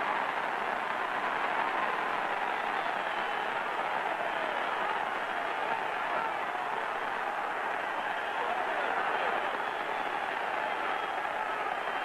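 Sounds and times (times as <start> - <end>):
crowd noise: 0.0 - 12.0.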